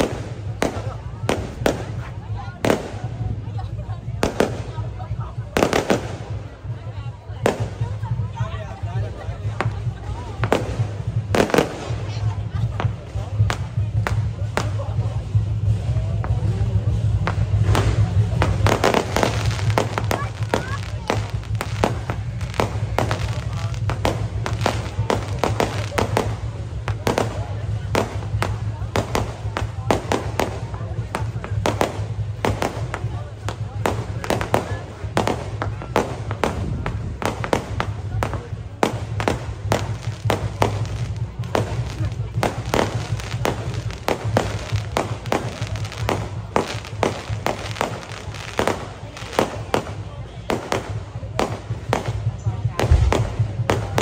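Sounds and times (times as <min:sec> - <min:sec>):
low rumble: 0:00.0 - 0:49.0, 0:49.6 - 0:54.0
fireworks bangs: 0:00.0 - 0:54.0.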